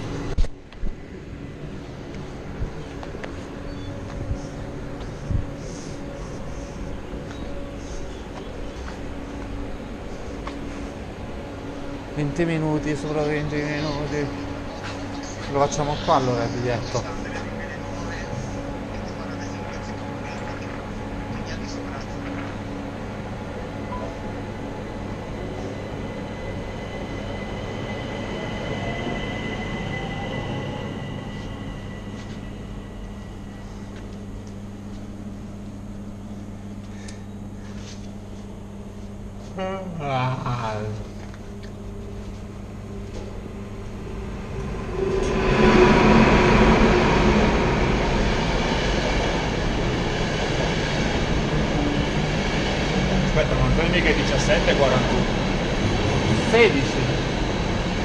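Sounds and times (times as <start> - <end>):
train rumbling: 0.0 - 36.8, 40.2 - 58.0
high whine: 0.0 - 58.0.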